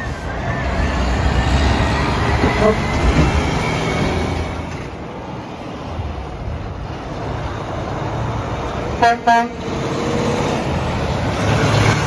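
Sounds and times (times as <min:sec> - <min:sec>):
truck passing close: 0:00.0 - 0:12.0.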